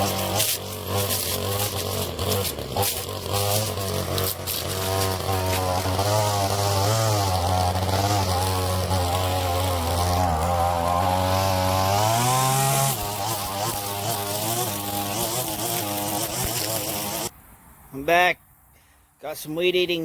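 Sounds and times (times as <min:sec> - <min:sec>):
string trimmer engine running: 0:00.0 - 0:17.3.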